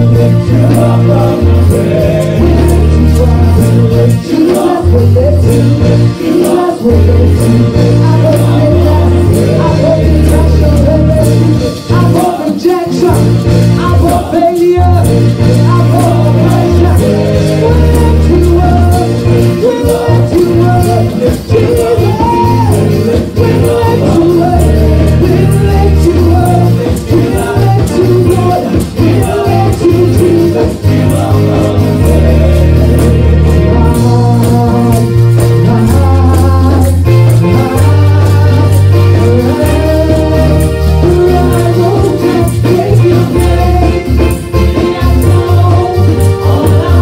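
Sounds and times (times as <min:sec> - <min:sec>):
band with bass and percussion: 0:00.0 - 0:47.0
voices singing gospel song: 0:00.0 - 0:47.0.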